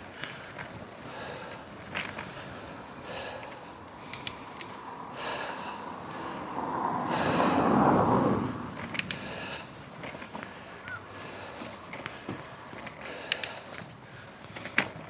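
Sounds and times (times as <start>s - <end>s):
bike clicks: 0.0s - 6.5s, 8.6s - 15.0s
cyclist breathing hard: 0.0s - 15.0s.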